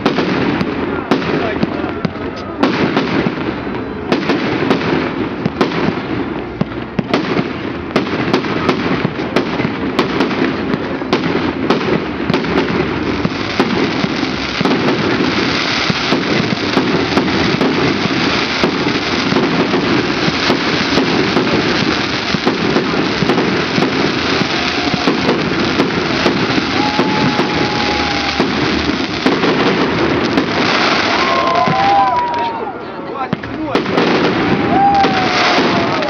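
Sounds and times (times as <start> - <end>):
fireworks bangs and cracks: 0.0 - 36.0
fireworks crackle: 0.0 - 36.0.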